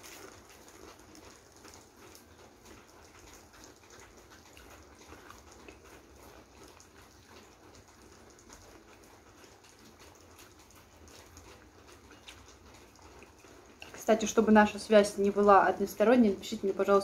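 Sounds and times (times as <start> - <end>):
chewing crisp fried food: 0.0 - 16.8
rain pattering: 0.0 - 17.0.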